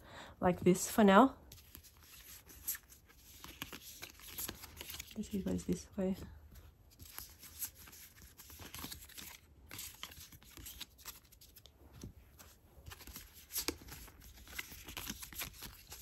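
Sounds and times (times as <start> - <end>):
cards rustling and clicking: 1.4 - 16.0.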